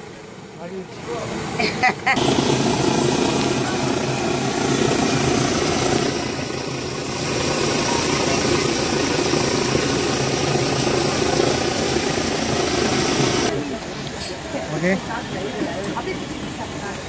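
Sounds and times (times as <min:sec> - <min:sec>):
low mechanical drone with hiss: 0:00.0 - 0:17.0.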